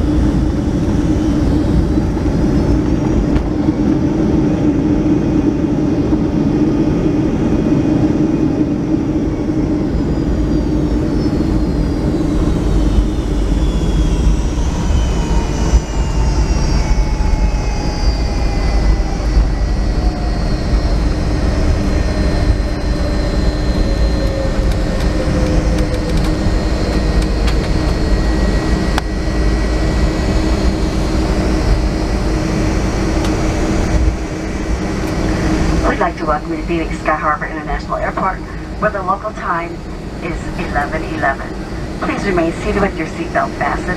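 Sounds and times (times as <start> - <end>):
cabin engine rumble: 0.0 - 43.9
jet engines whining down: 0.0 - 43.9.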